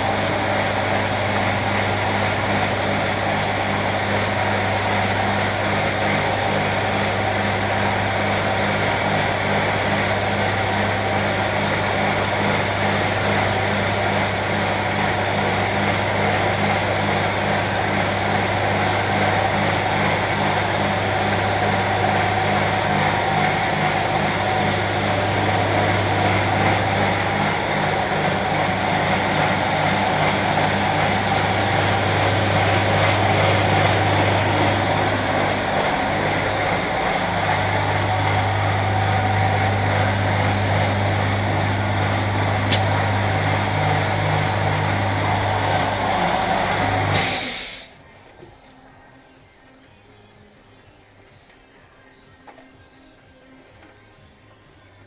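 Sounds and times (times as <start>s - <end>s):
machine humming: 0.0s - 47.8s.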